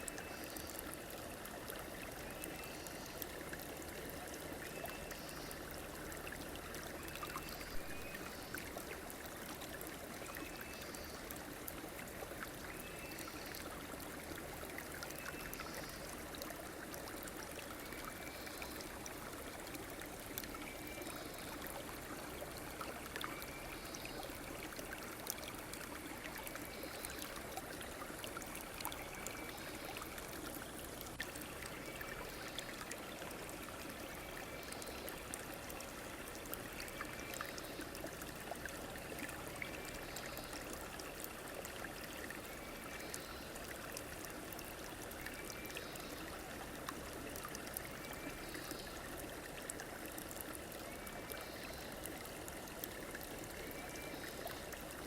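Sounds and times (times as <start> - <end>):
stream flowing and gurgling: 0.0 - 55.0.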